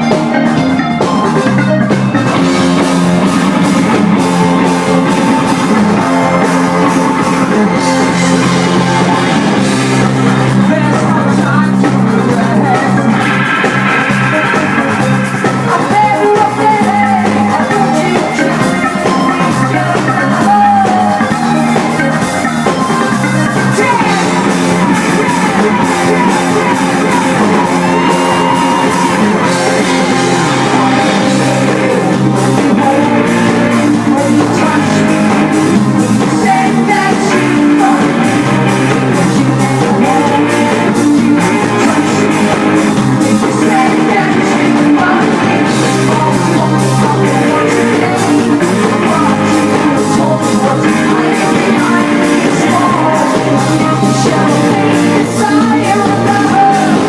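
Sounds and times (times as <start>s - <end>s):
drum kit beat: 0.0s - 57.0s
live rock band playing: 0.0s - 57.0s.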